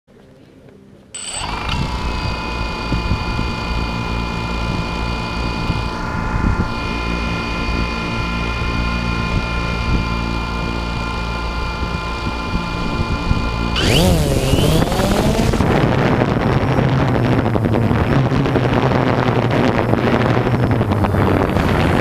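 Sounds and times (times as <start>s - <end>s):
engine running steadily: 0.4s - 22.0s.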